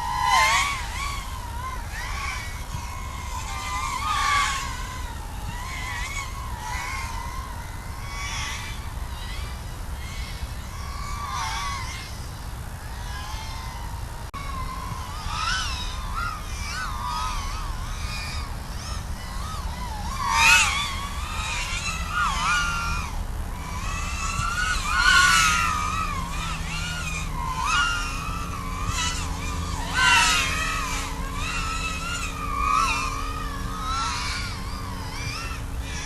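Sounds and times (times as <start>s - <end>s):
drone motors whining: 0.0s - 36.0s
steady low rumble: 0.0s - 36.0s.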